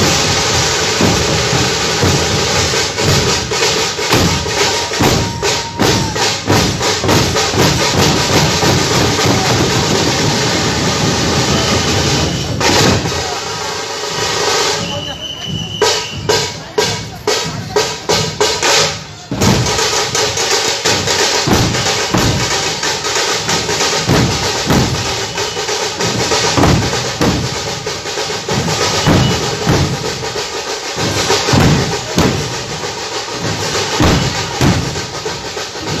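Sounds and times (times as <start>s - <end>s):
music with drum kit beat: 0.0s - 13.4s, 15.6s - 36.0s.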